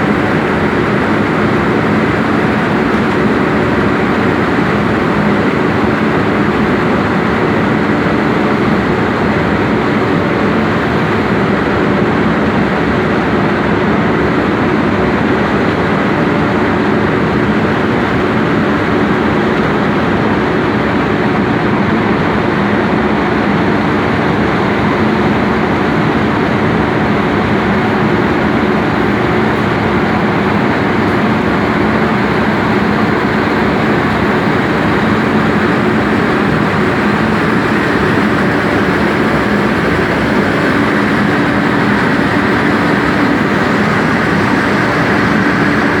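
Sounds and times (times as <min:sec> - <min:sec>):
dryer blower and mixer noise: 0:00.0 - 0:46.0.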